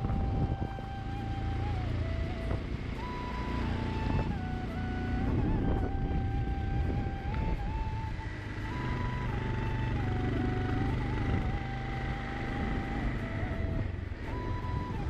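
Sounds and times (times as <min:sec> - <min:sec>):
background music with held notes: 0:00.0 - 0:15.0
scooter engine running: 0:00.0 - 0:15.0
wind rumble: 0:00.0 - 0:15.0.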